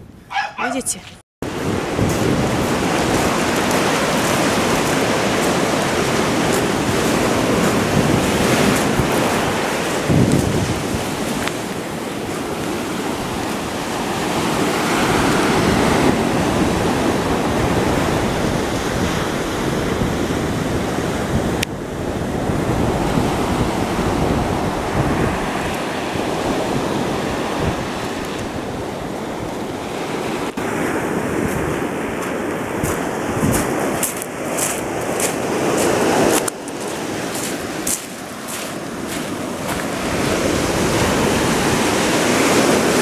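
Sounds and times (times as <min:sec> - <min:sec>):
wind buffeting microphone: 0:00.0 - 0:43.0
surf breaking on shore: 0:01.4 - 0:43.0.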